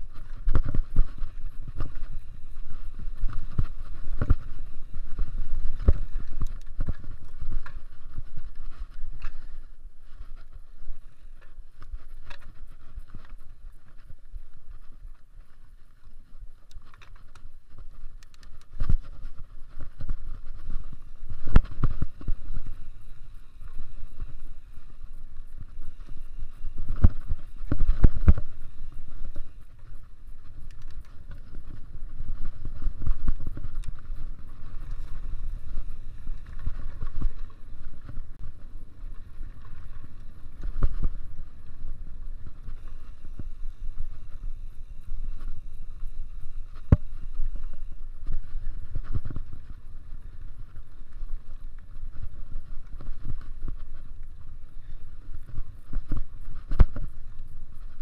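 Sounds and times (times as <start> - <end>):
bike tyres rumbling on dirt: 0.0 - 58.0.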